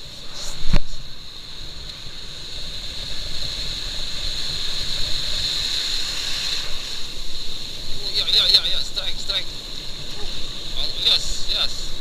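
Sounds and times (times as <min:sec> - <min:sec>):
steady high hiss: 0:00.0 - 0:12.0
wind rumbling on microphone: 0:00.0 - 0:12.0.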